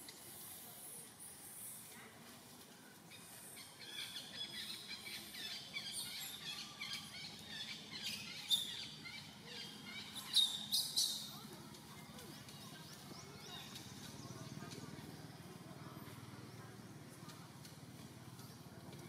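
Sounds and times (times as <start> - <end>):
small birds chirping: 3.1 - 19.0.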